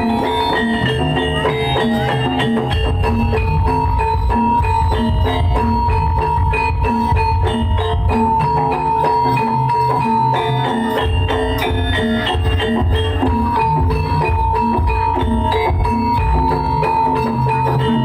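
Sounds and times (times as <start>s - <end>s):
metal mallet instruments: 0.0s - 18.0s.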